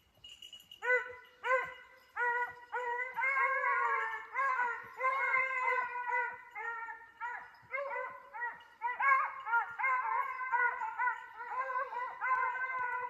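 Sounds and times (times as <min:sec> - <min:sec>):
hounds baying: 0:00.3 - 0:13.0.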